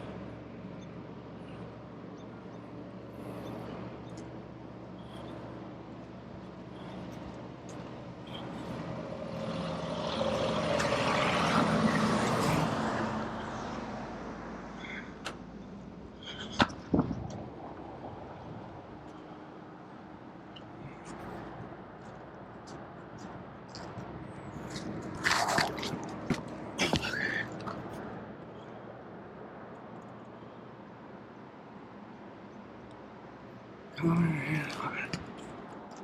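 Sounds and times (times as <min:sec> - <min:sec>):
low engine hum: 0:00.0 - 0:36.0
vehicle passing on highway: 0:00.0 - 0:36.0.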